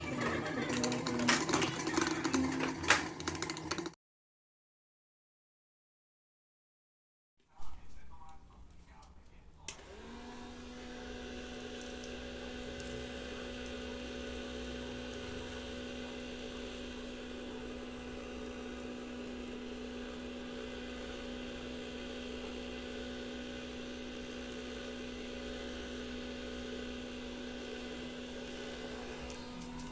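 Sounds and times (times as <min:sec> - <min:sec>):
vacuum cleaner motor humming: 0:00.0 - 0:04.0, 0:09.7 - 0:29.9.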